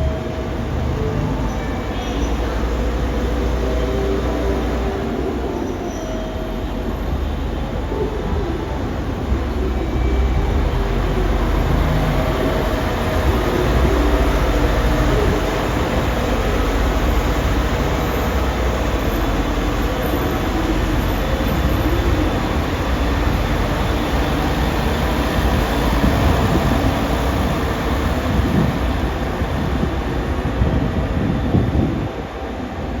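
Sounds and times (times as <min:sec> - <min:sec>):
diesel train engine: 0:00.0 - 0:33.0
rail noise: 0:00.0 - 0:33.0.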